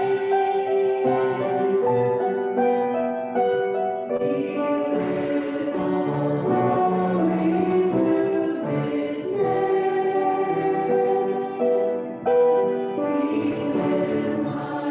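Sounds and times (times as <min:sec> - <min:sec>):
choir singing held chords: 0:00.0 - 0:14.9.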